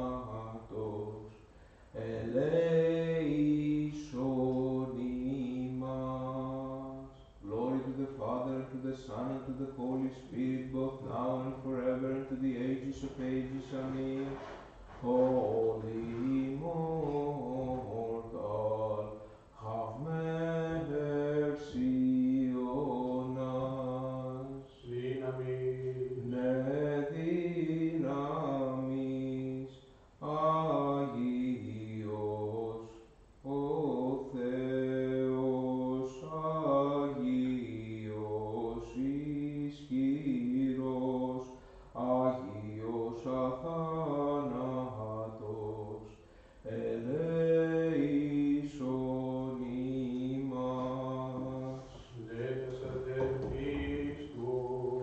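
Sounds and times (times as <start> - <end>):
voices chanting a slow hymn: 0.0 - 55.0.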